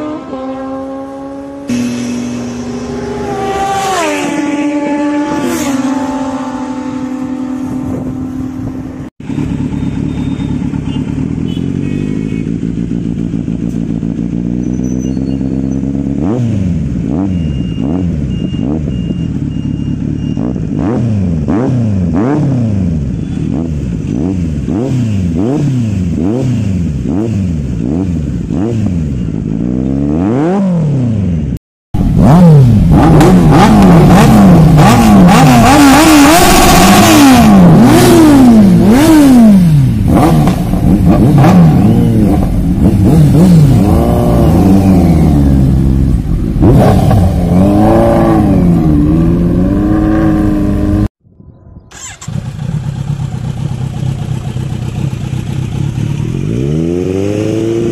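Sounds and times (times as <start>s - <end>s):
motorcycle engine revving: 0.0s - 51.2s, 51.8s - 57.9s
motorcycle engines revving harshly: 0.0s - 51.2s, 51.9s - 57.9s.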